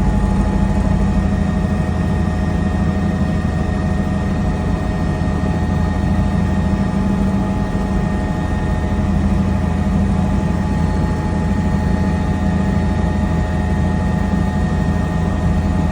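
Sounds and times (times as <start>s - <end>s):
constant high whine: 0.0s - 15.9s
helicopter engine and rotor drone: 0.0s - 15.9s.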